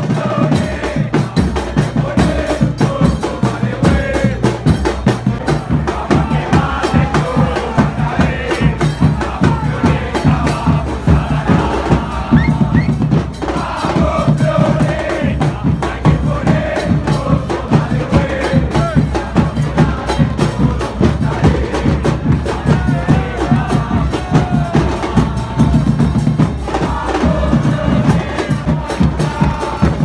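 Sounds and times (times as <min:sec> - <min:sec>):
bass drums beating: 0:00.0 - 0:30.0
crowd singing a chant: 0:00.0 - 0:30.0.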